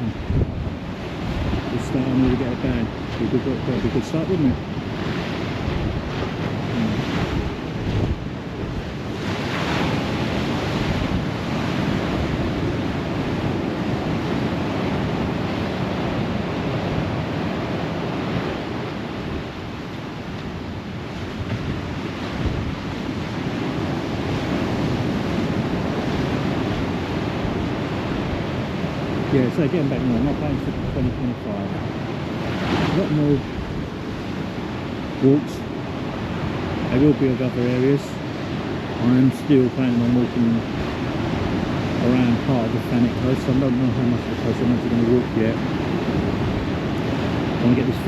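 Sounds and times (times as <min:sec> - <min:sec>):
sea waves breaking on shore: 0:00.0 - 0:48.0
wind buffeting microphone: 0:00.0 - 0:48.0.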